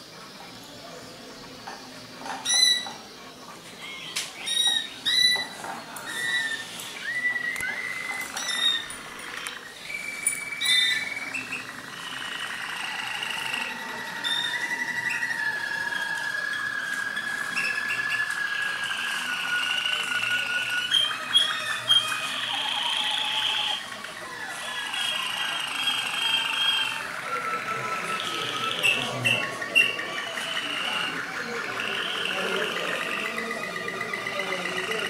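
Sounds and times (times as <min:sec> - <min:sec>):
canary rolling trill: 0:00.5 - 0:35.0
canaries whistled notes: 0:02.2 - 0:03.1, 0:03.8 - 0:35.0.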